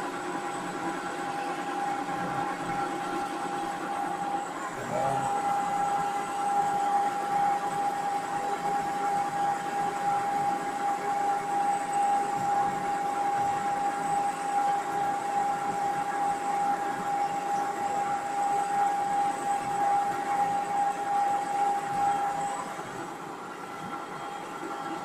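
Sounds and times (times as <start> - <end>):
lathe high whine: 0.0 - 25.0.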